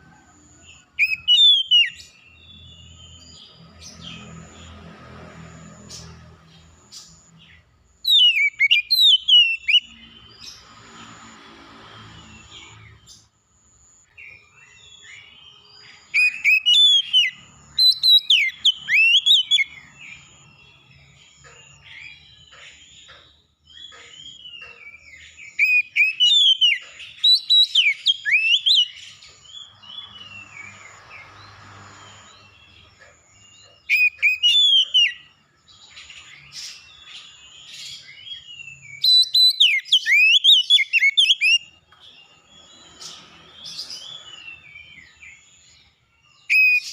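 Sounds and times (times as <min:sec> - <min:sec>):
bird chirping: 0:00.0 - 0:46.9
songbird whistled song: 0:00.6 - 0:04.5, 0:06.9 - 0:11.1, 0:13.9 - 0:46.9.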